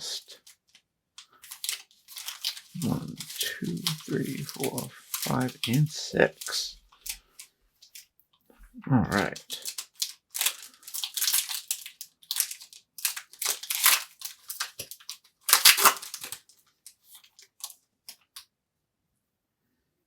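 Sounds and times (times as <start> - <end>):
foil wrapper crinkling and tearing: 0.0 - 8.1, 9.1 - 18.4.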